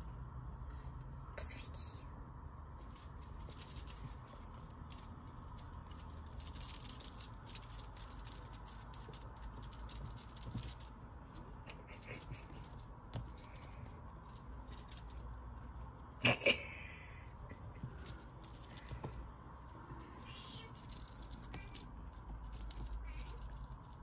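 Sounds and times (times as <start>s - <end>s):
kittens scratching on yarn: 2.8s - 16.0s, 17.7s - 24.0s.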